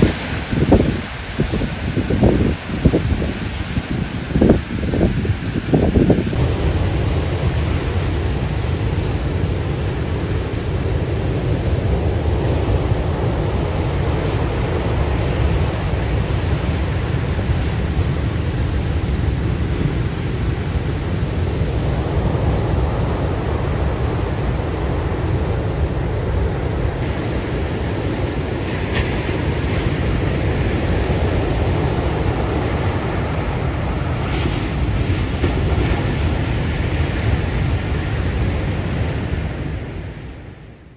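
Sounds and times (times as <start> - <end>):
wind buffeting microphone: 0.0 - 40.3
ocean surf breaking: 6.3 - 40.4.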